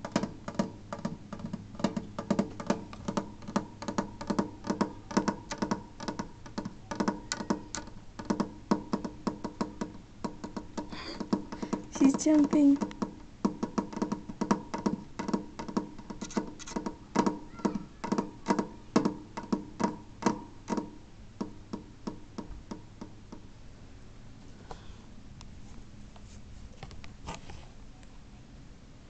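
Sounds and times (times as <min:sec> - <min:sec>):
fingertips tapping on glass: 0:00.0 - 0:23.5.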